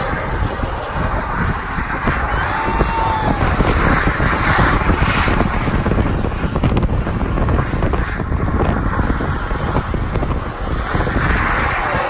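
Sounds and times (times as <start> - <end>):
tyres spinning on asphalt: 0.0 - 12.0
wind buffeting microphone: 0.0 - 12.0.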